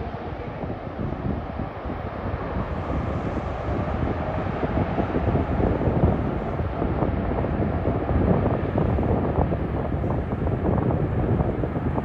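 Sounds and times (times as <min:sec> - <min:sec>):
jet airliner rumble: 0:00.0 - 0:12.0
wind buffeting microphone: 0:00.0 - 0:12.0.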